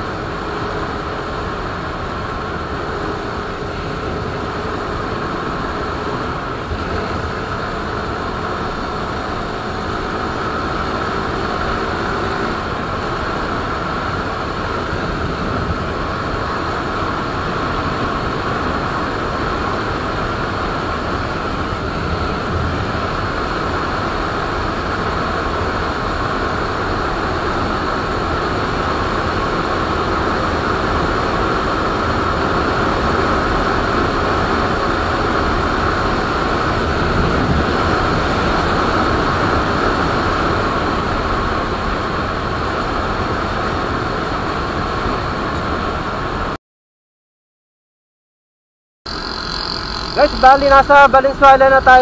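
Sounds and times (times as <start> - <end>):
motorcycle engine droning: 0.0 - 46.5, 49.1 - 52.0
wind rush over microphone: 0.0 - 46.6.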